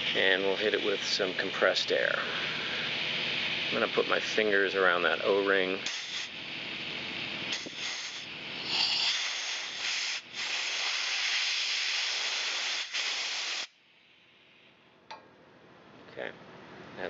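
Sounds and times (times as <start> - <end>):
compressed air hissing: 0.0 - 14.6.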